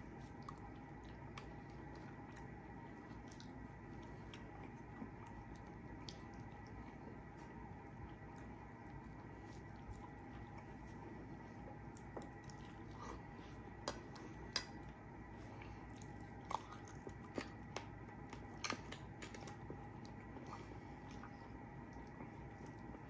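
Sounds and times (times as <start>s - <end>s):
chewing and biting food: 0.0s - 11.1s, 11.7s - 13.4s, 15.6s - 23.0s
low steady hum: 0.0s - 23.0s.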